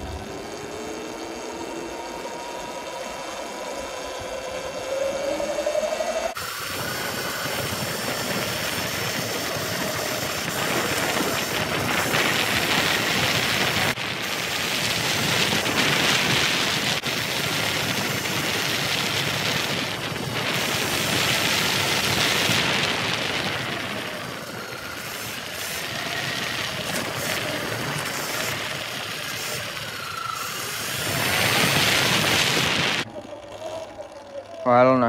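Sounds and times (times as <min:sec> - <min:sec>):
wind rush on microphone: 0:04.9 - 0:33.1
tyre noise on pavement: 0:06.3 - 0:34.5.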